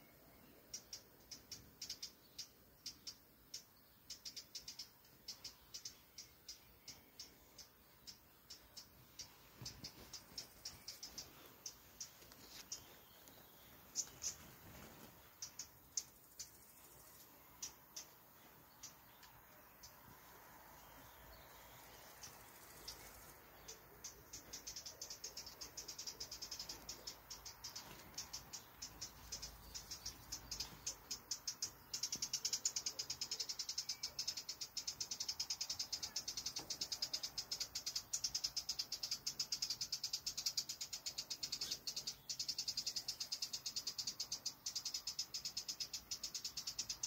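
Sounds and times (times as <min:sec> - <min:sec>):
animal scolding chatter in trees: 0:00.0 - 0:47.0.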